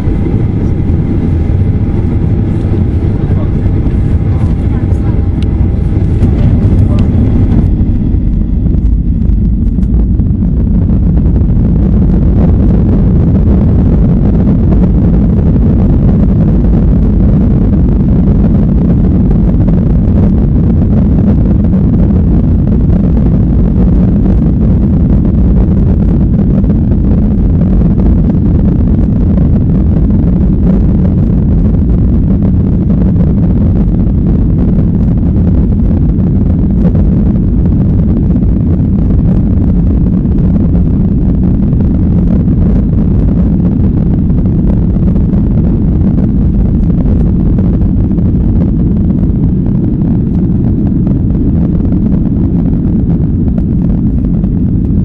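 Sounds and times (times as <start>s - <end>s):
airplane engines rumbling in cabin: 0.0s - 55.0s.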